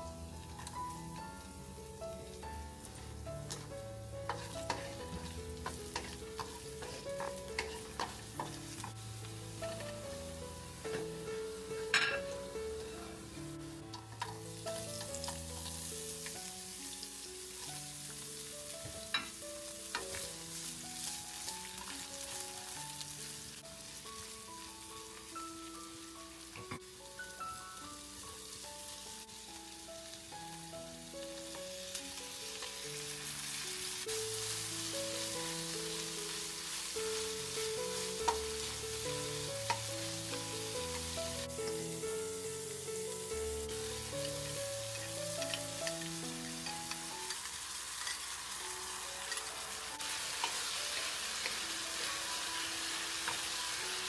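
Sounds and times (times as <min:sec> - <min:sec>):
food sizzling in a pan: 0:00.0 - 0:54.0
soft background music: 0:00.0 - 0:54.0.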